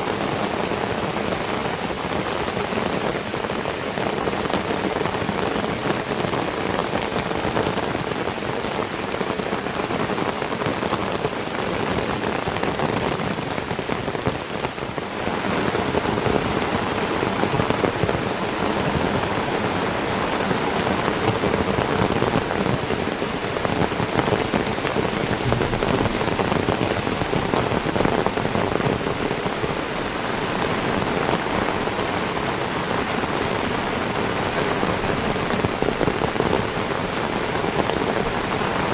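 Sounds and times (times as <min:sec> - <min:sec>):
heavy rain on foliage: 0:00.0 - 0:38.9.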